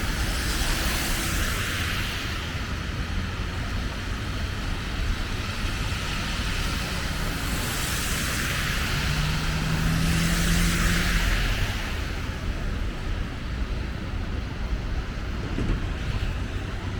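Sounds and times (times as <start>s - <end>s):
engine hum: 0.0s - 16.9s
traffic rumble: 0.0s - 16.9s
tyre hiss of passing cars: 0.0s - 16.9s.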